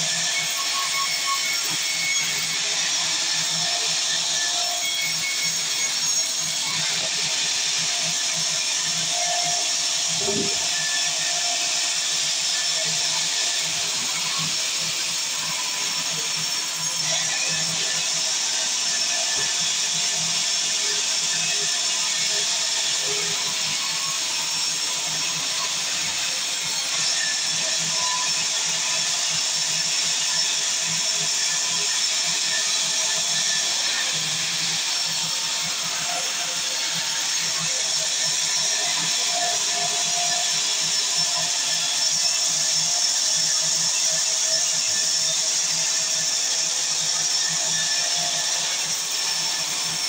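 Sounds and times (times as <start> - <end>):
sawmill saw cutting wood: 0.0 - 50.0.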